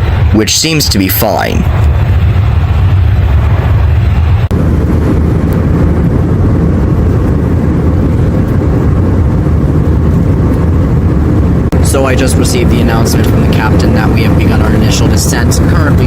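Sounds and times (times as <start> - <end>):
aircraft cabin roar: 0.0 - 16.0.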